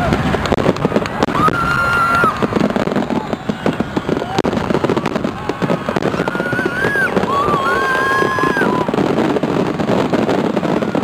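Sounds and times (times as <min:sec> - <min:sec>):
fireworks crackling and popping: 0:00.0 - 0:11.0
fireworks whistling: 0:00.0 - 0:11.0.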